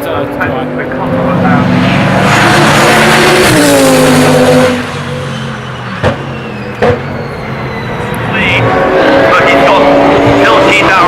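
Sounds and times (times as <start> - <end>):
distant cars: 0.0 - 11.0
race car engine passing: 0.2 - 11.0.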